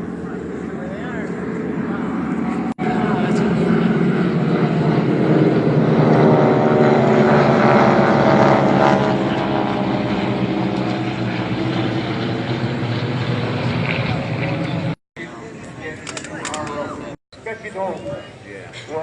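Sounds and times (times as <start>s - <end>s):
propeller aircraft droning overhead: 0.0s - 19.0s.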